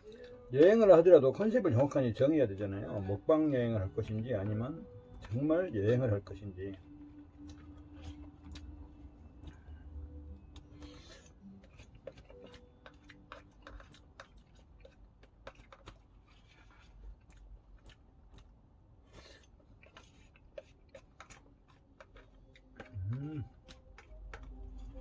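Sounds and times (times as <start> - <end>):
soft chewing: 0.0 - 25.0.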